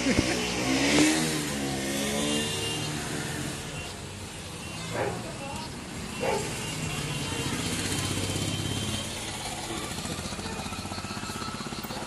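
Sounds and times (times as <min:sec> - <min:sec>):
motorcycle engine passing: 0:00.0 - 0:03.8, 0:06.0 - 0:12.0.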